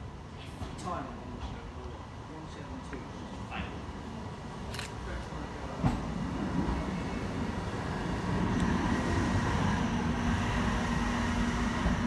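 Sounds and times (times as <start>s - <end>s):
railcar rumble and hum: 0.0s - 12.0s.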